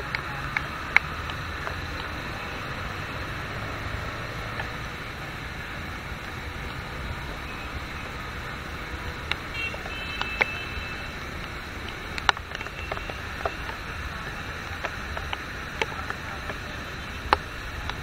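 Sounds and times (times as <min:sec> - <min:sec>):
heavy rain hissing: 0:00.0 - 0:18.0
sharp ticks: 0:00.0 - 0:18.0
tyres on wet road: 0:00.0 - 0:18.0.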